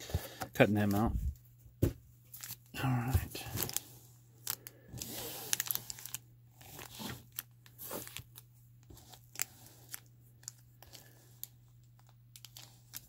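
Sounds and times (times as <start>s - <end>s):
card packs crinkling and clicking: 0.0s - 1.1s, 2.3s - 13.0s.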